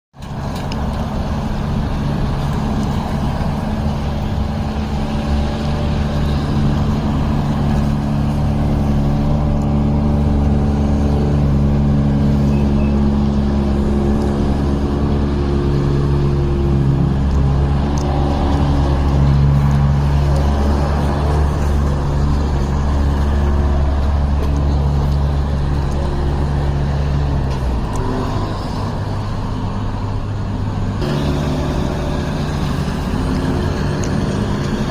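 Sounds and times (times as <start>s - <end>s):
street sweeper droning: 0.2s - 34.9s.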